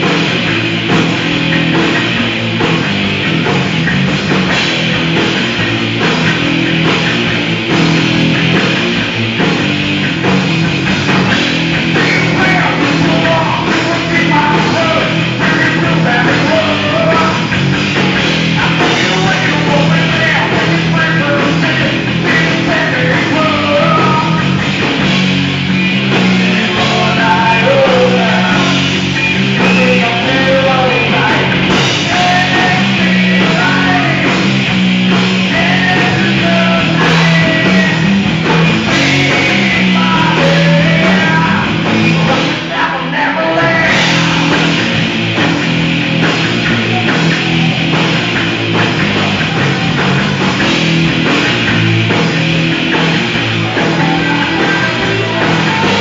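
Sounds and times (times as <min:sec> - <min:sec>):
bass: 0:00.0 - 0:56.0
distorted electric guitars: 0:00.0 - 0:56.0
pounding drum kit: 0:00.0 - 0:56.0.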